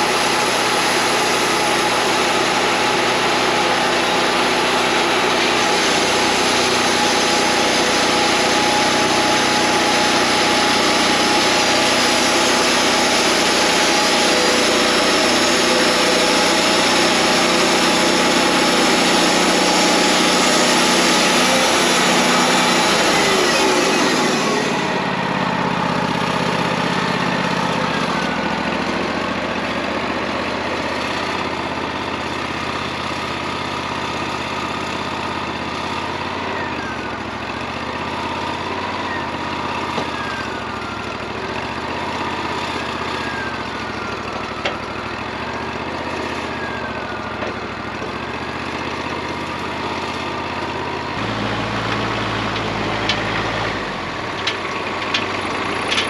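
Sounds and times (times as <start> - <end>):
wavering saw whine: 0.0 - 32.6, 35.3 - 56.0
bandsaw sawmill engine hum: 0.0 - 56.0.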